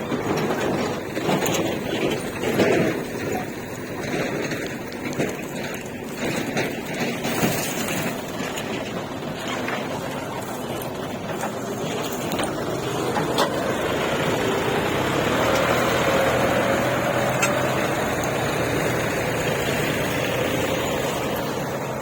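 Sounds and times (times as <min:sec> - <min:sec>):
diesel machinery engine revving: 0:00.0 - 0:22.0.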